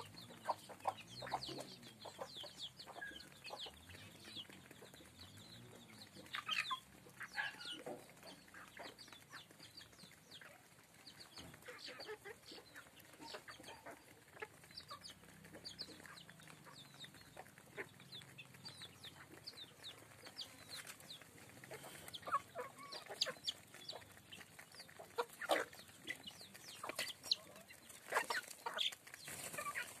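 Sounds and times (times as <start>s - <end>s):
beaks pecking on concrete: 0.0s - 30.0s
chickens clucking: 0.0s - 30.0s.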